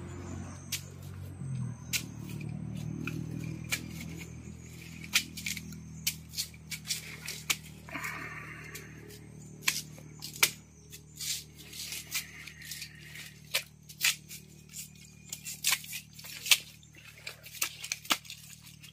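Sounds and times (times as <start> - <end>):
blade chopping palm stalks: 0.2 - 18.9.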